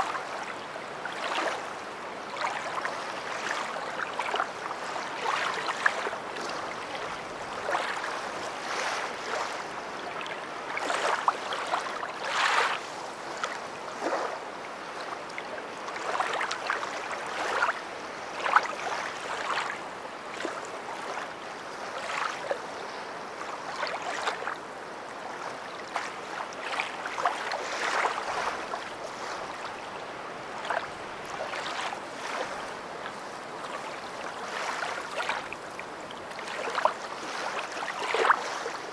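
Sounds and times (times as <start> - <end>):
river water flowing and splashing: 0.0 - 38.9.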